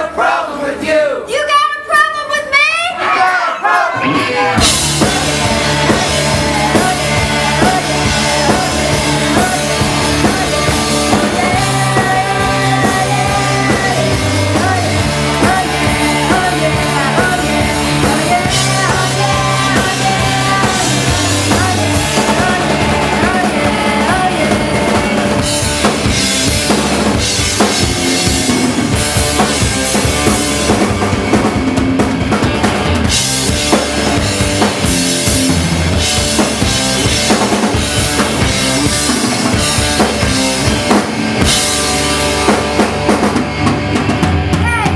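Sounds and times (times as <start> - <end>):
rock band playing: 1.4 - 44.9
drum kit: 3.2 - 44.9.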